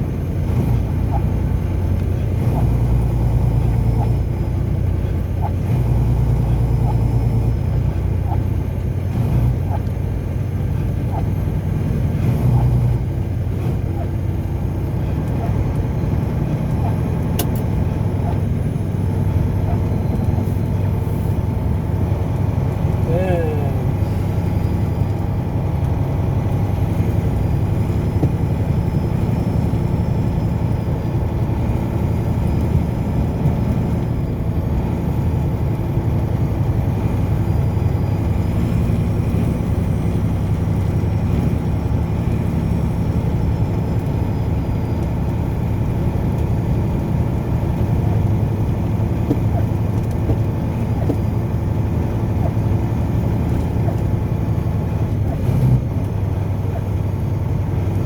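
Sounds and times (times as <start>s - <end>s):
car driving road noise: 0.0s - 58.0s.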